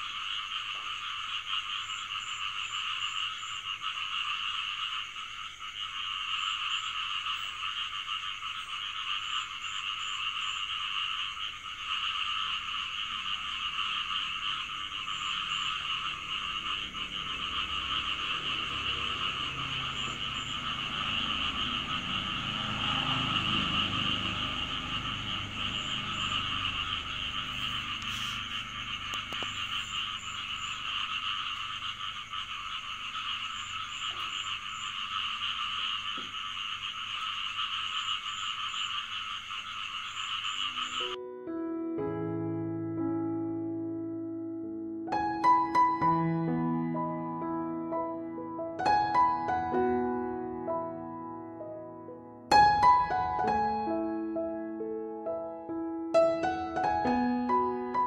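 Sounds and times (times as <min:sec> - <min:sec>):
frogs croaking: 0:00.0 - 0:41.3, 0:44.7 - 0:58.0.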